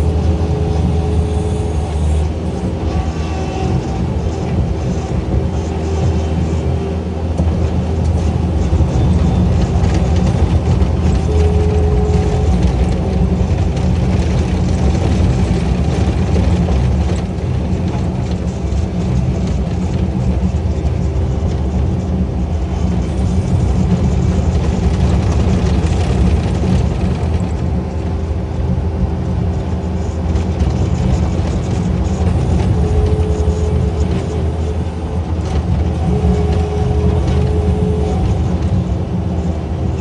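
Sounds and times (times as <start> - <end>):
engine running with deep rumble: 0.0 - 40.0.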